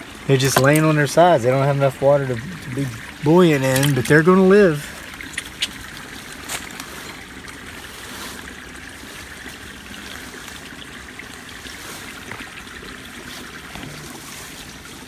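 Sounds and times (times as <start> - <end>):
shallow water trickling: 0.0 - 15.0.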